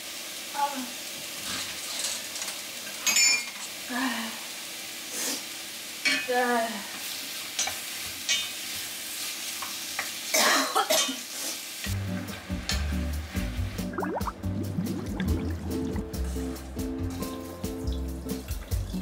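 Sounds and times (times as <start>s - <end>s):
food sizzling: 0.0s - 19.0s.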